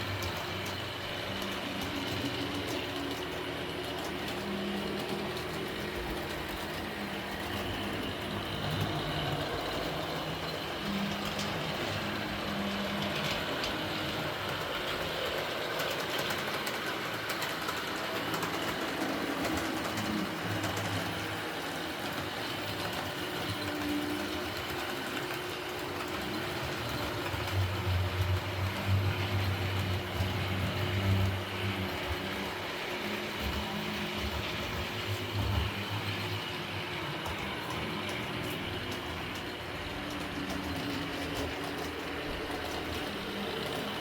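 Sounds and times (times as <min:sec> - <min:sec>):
model train wheels clicking: 0:00.0 - 0:44.0.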